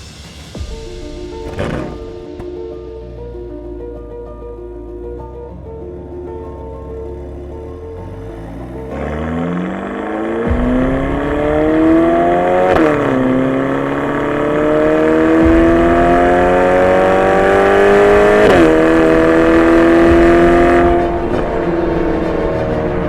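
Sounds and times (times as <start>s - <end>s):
sports car engine accelerating: 0.6s - 2.7s, 4.4s - 23.0s.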